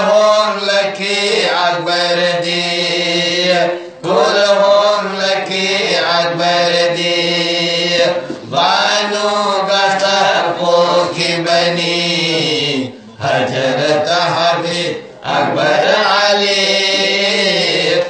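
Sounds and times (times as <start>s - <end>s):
men singing devotional song: 0.0s - 18.0s.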